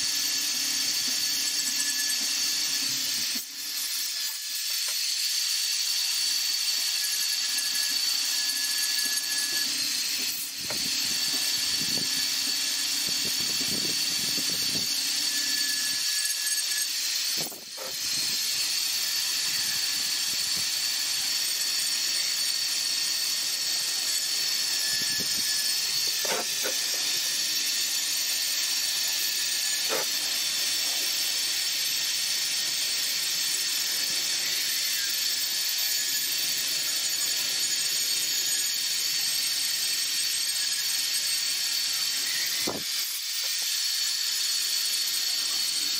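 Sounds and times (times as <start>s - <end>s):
rotary tool grinding wood: 0.0s - 45.9s.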